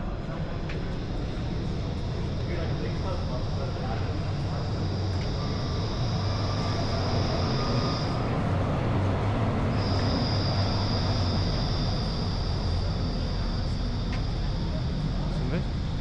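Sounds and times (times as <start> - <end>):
high whine: 0.0 - 16.0
tram rumbling: 0.0 - 16.0.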